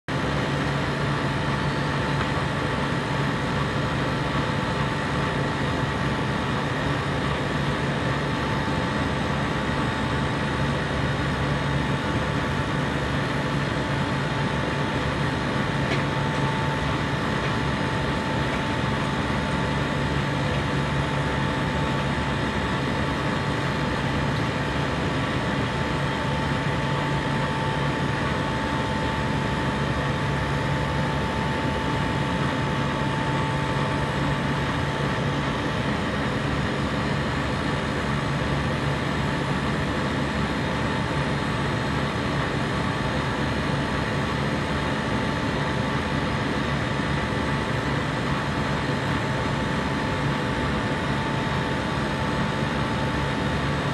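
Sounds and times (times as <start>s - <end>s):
compressor running: 0.1s - 53.9s.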